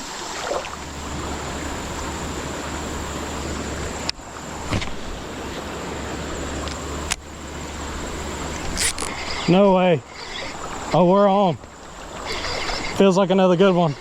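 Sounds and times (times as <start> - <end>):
creek rushing: 0.0 - 14.0.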